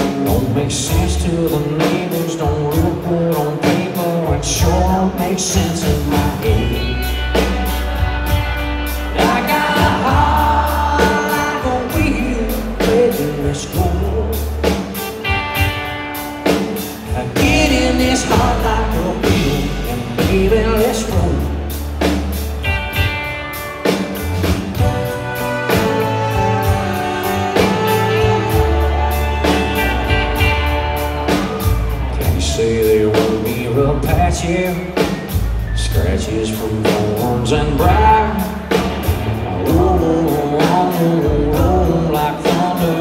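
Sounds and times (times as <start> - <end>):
country rock band playing: 0.0 - 43.0.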